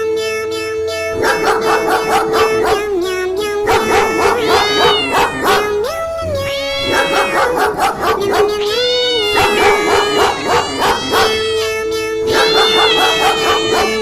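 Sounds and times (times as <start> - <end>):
background music: 0.0 - 14.0
dog barking: 1.2 - 14.0
dog yelping: 1.2 - 14.0.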